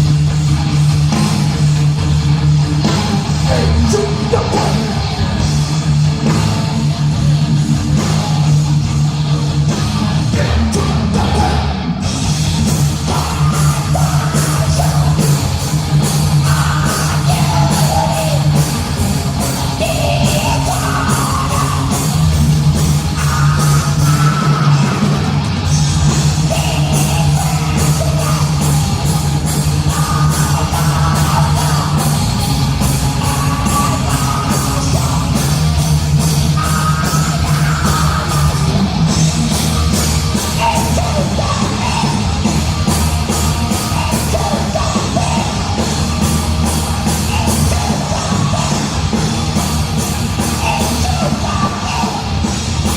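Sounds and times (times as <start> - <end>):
fast drumming: 0.0 - 52.9
heavy metal band playing: 0.0 - 52.9.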